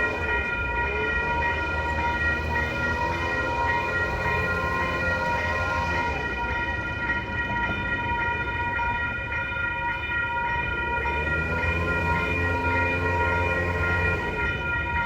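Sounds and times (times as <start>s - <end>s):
train rumbling by: 0.0s - 15.0s.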